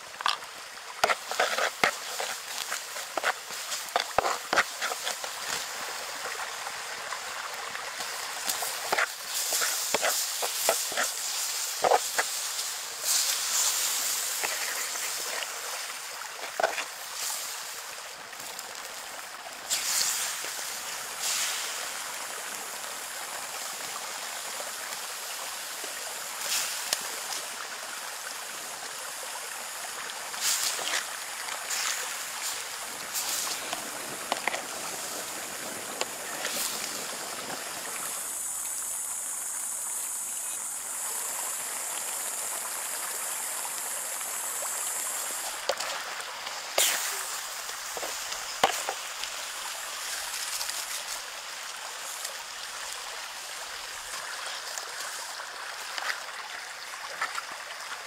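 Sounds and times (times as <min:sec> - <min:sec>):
shallow water running over stones: 0:00.0 - 0:58.0.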